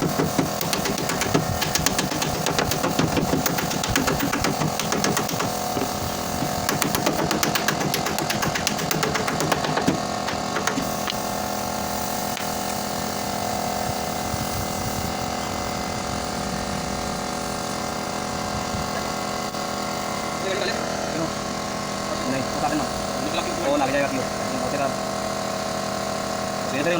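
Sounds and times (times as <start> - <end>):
power tool rattling and humming: 0.0 - 26.9.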